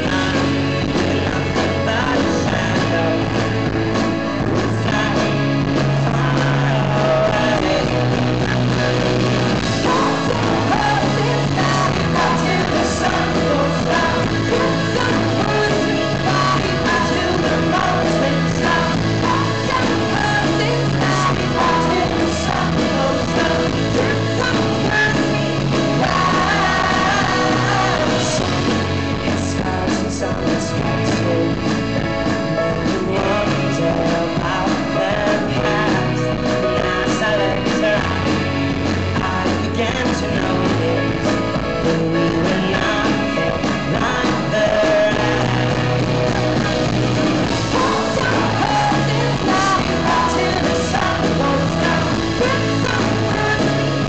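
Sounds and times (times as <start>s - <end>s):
live folk-pop band playing: 0.0s - 54.0s
person singing: 0.0s - 54.0s.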